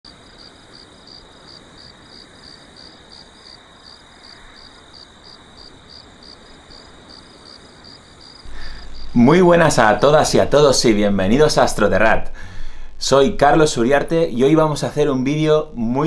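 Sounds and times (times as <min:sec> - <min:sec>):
background hiss: 0:00.1 - 0:16.0
cricket chirping: 0:00.1 - 0:16.0.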